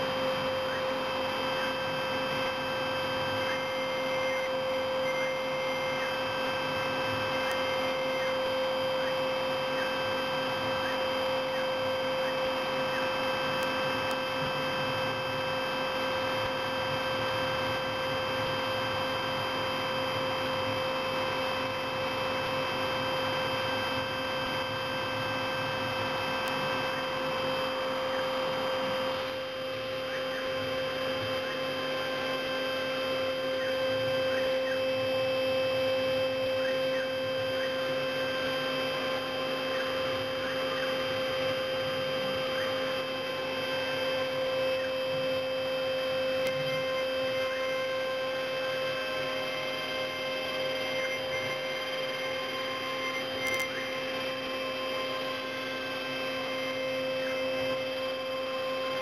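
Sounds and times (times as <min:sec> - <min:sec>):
milling machine spindle whining: 0:00.0 - 0:59.0.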